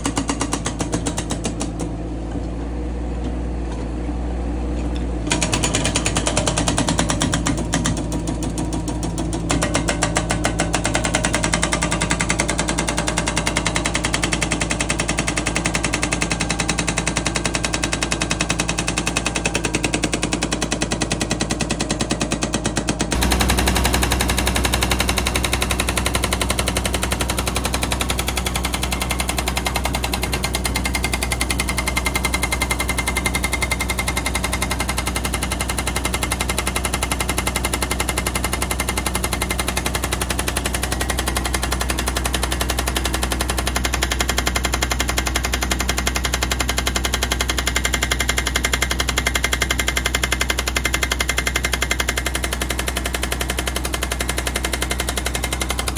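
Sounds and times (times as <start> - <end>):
hydraulic breaker hammering rock: 0.0 - 2.0, 5.2 - 55.9.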